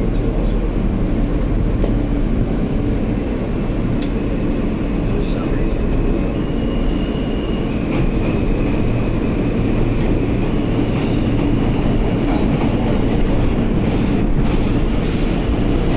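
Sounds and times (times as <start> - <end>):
subway wheels rumbling on rail: 0.0 - 15.9.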